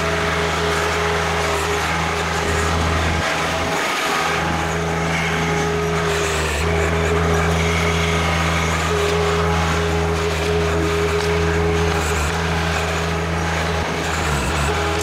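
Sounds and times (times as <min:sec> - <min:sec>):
high whine: 0:00.0 - 0:15.0
tractor engine running under load: 0:00.0 - 0:15.0.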